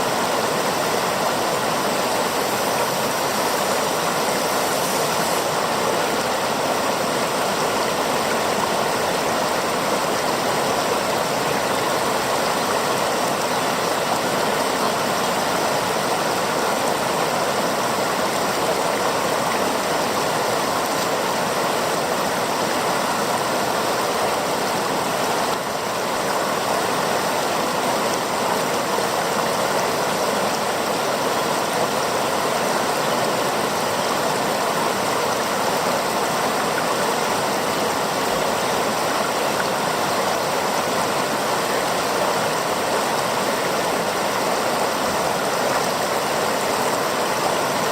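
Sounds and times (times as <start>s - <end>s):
mountain river rushing: 0.0s - 47.9s.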